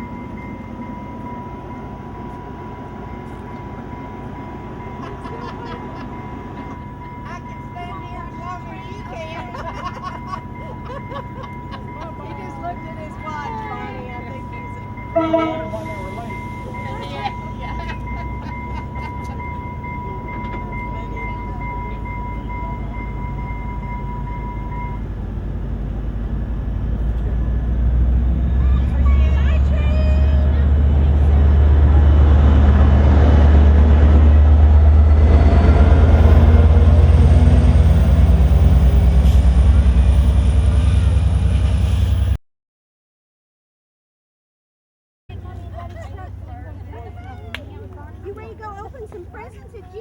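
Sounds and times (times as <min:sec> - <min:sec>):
train car rumble: 0:00.0 - 0:42.4, 0:45.3 - 0:50.0.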